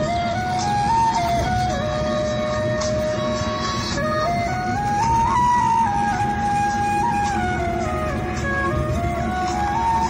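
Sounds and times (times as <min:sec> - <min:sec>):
flute playing slow melody: 0:00.0 - 0:10.0
moving vehicle rumble: 0:00.0 - 0:10.0.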